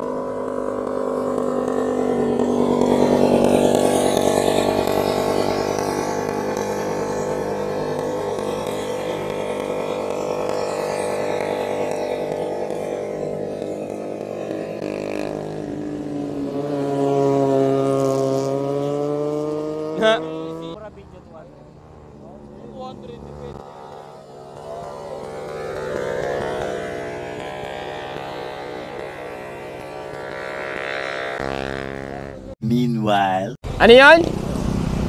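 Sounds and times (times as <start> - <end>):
motorcycle engines passing: 0.0 - 35.0.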